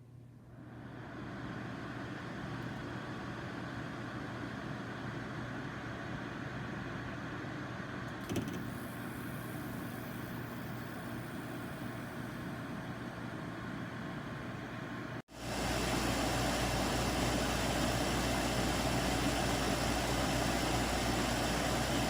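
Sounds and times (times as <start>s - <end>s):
air conditioner fan rushing: 0.1s - 22.0s.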